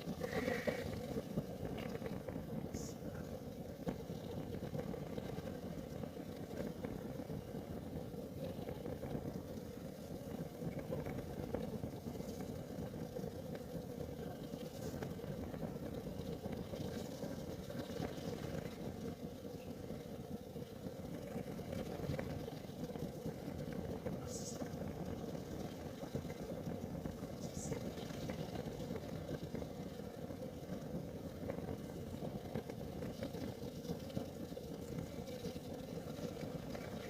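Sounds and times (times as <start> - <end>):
faint crackles: 0.0 - 37.0
heater flame rumbling: 0.0 - 37.0.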